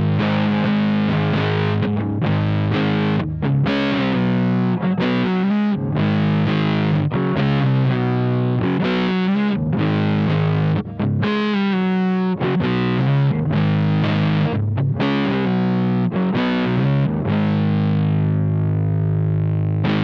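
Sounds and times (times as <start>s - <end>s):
electric guitar chords and riffs: 0.0s - 20.0s.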